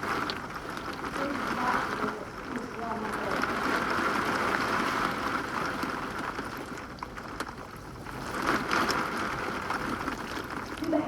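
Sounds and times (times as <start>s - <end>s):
wind-driven rain: 0.0s - 11.0s.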